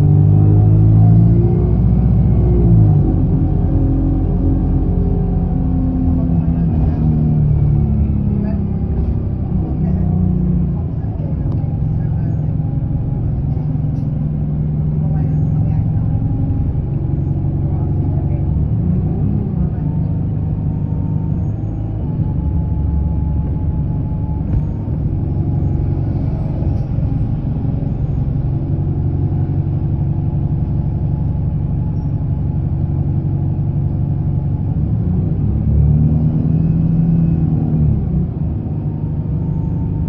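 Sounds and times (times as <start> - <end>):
bus engine rumbling: 0.0 - 40.0.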